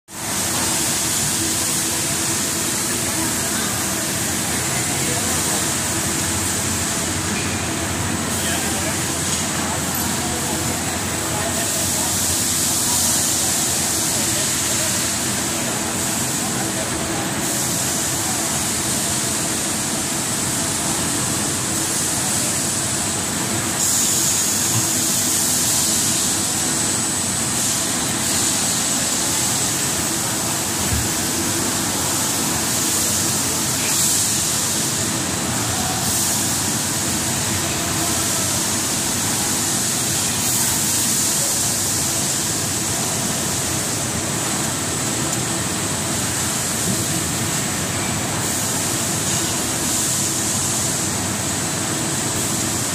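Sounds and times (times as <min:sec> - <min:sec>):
steady mechanical hum: 0:00.1 - 0:52.9.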